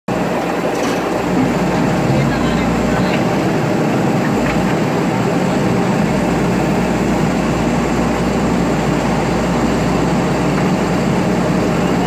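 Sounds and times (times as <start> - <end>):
diesel engine running under load: 0.1 - 12.0.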